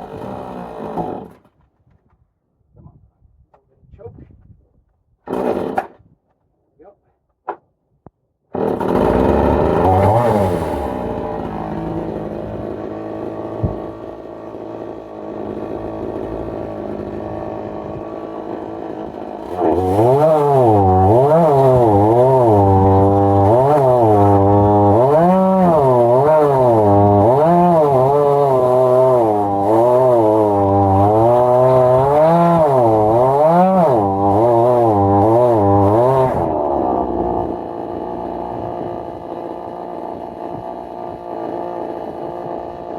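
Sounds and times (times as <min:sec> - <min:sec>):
chainsaw engine: 0:00.0 - 0:01.5, 0:05.3 - 0:06.0, 0:08.5 - 0:42.9.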